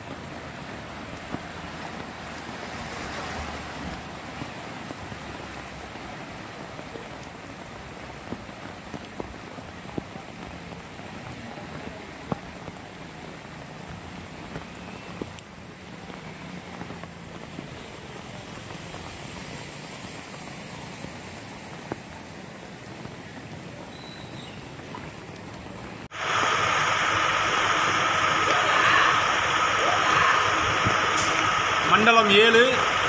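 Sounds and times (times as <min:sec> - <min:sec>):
heavy rain on water: 0:00.0 - 0:33.0.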